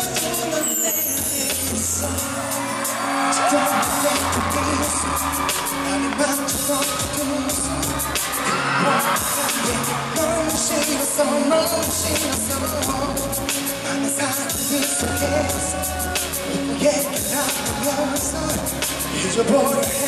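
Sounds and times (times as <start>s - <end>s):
man singing into a microphone: 0.0s - 20.0s
pop backing track with bass beat: 0.0s - 20.0s
audience screaming: 0.1s - 12.9s, 13.8s - 20.0s.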